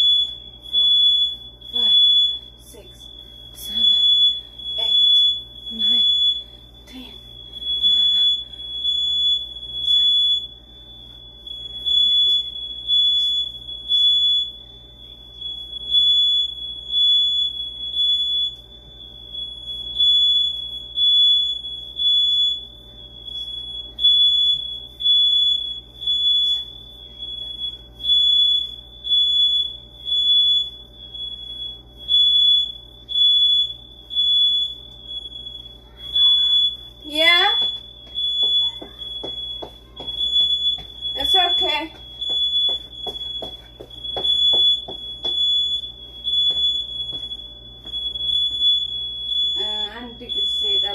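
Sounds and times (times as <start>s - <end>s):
house alarm high-pitched beeps: 0.0s - 50.9s.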